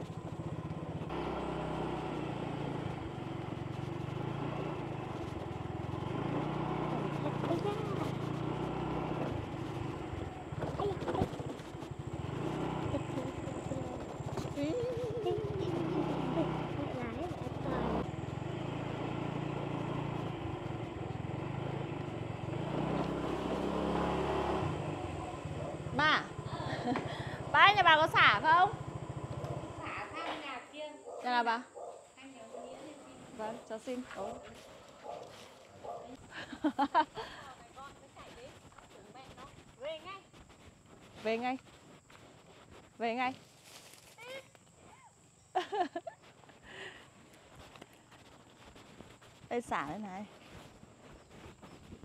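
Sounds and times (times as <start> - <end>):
small motorbike engine running: 0.0 - 30.6, 32.3 - 52.0
road and wind noise: 0.0 - 52.0.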